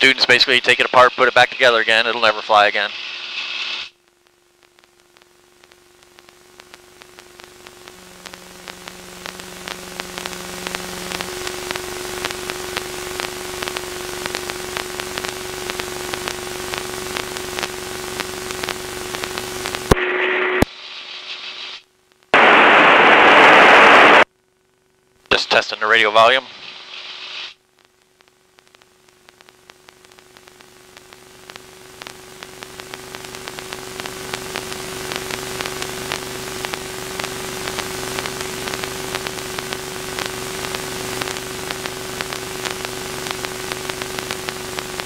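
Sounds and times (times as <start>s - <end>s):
loud burst of static: 0.0s - 4.0s, 7.0s - 24.3s, 25.3s - 27.6s, 28.7s - 45.0s
radio static hiss with tone: 0.0s - 45.0s.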